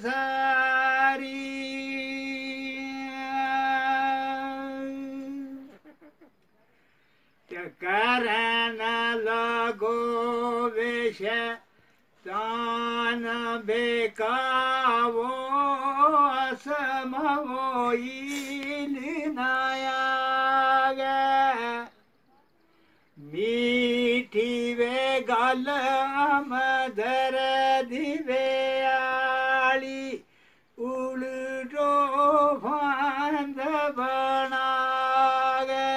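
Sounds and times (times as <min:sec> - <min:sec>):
man singing unaccompanied: 0:00.0 - 0:06.0, 0:07.4 - 0:22.4, 0:23.1 - 0:35.9.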